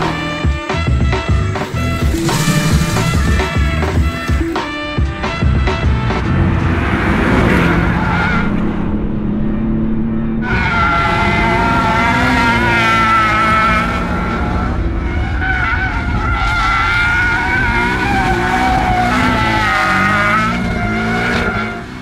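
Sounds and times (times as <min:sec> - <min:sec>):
car engine revving: 0:01.1 - 0:22.0.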